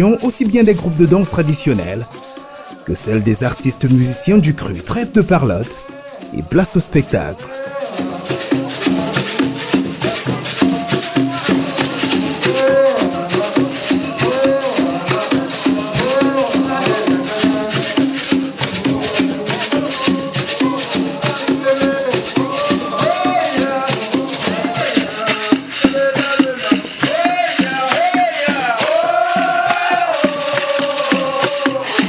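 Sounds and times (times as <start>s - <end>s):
rattles shaken in fast rhythm: 0.0s - 32.0s
voices singing melody: 0.0s - 32.0s.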